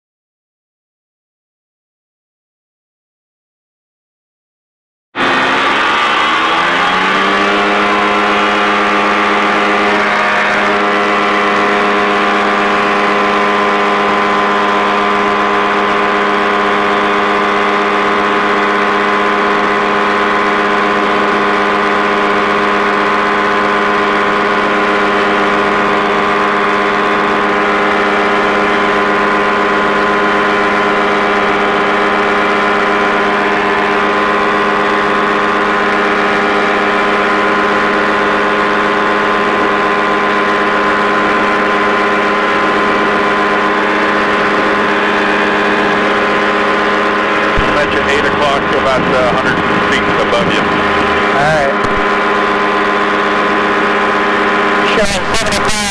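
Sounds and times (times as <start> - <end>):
ultralight aircraft engine and propeller: 5.2 - 55.9.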